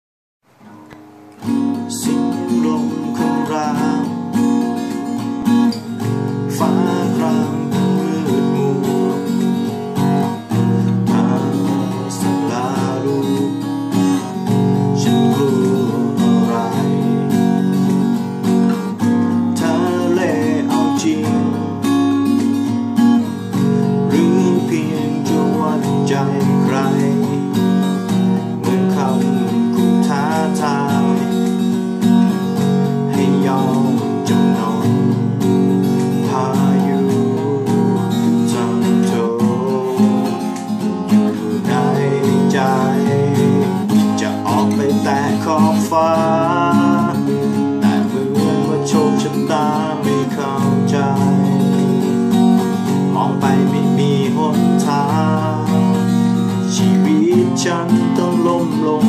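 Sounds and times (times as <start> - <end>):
acoustic guitar strummed: 0.4 - 59.0.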